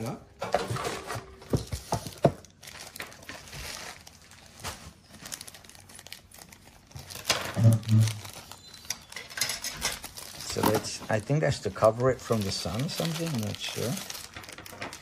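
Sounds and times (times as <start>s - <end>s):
plastic packaging crinkling: 1.2s - 15.0s.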